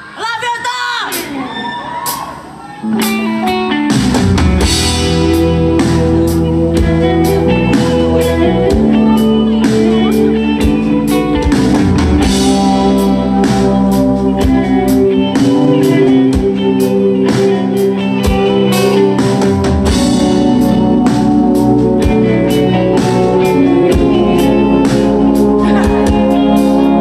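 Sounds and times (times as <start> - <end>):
drum kit steady beat: 2.0 - 27.0
electric guitars and bass chords: 2.8 - 27.0.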